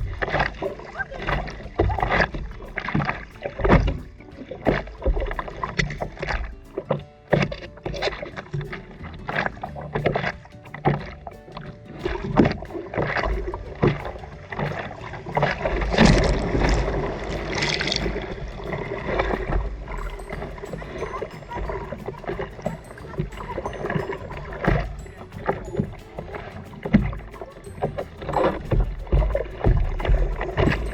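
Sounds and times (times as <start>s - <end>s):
rush of water: 0.0s - 30.9s
sea water splashing: 0.0s - 30.9s.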